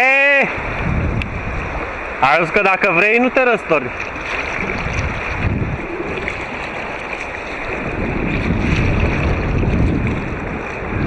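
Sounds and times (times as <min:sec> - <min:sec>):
wind rumble on microphone: 0:00.0 - 0:02.7, 0:03.7 - 0:11.0
river water rushing: 0:00.0 - 0:11.0.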